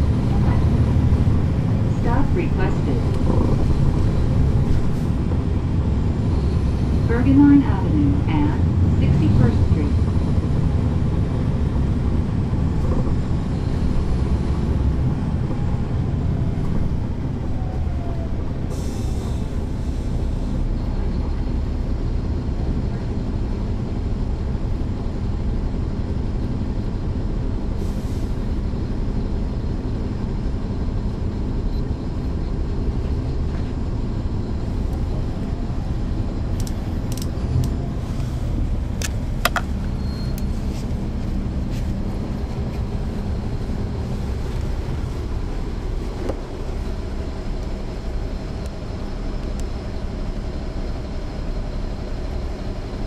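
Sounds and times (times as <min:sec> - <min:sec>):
bus diesel engine humming: 0:00.0 - 0:53.0.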